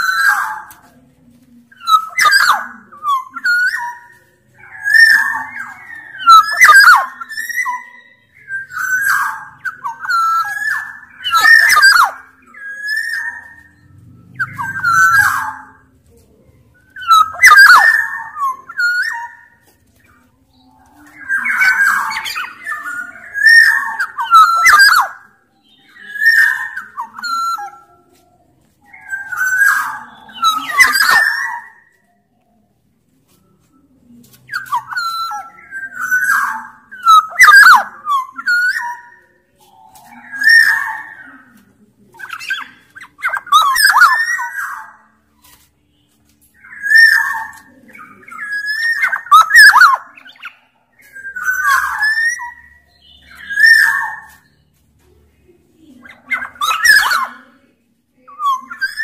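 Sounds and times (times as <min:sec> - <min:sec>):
oriole singing fluty whistles: 0:01.7 - 0:15.9, 0:16.8 - 0:28.0, 0:28.9 - 0:32.3, 0:34.5 - 0:41.6, 0:42.2 - 0:54.7.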